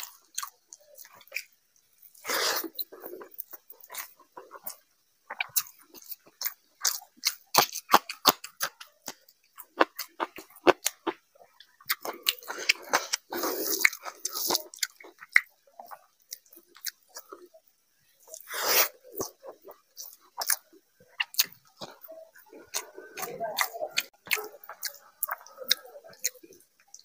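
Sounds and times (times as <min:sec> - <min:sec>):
chewing with wet smacks: 0:00.0 - 0:17.6, 0:18.2 - 0:27.0.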